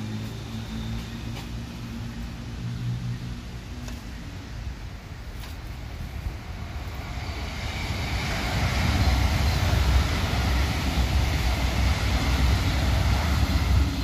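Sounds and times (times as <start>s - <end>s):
train rushing past: 0.0s - 14.0s.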